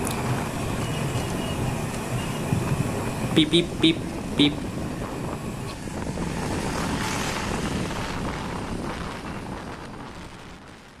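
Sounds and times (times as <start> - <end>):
motorcycle engine and road noise: 0.0 - 11.0
wind over microphone: 0.0 - 11.0.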